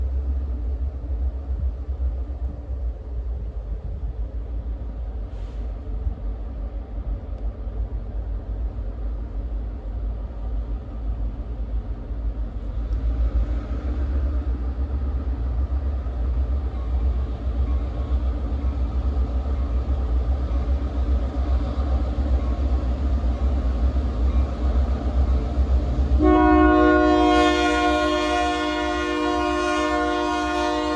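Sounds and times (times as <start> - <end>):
diesel locomotives rumbling: 0.0 - 30.9.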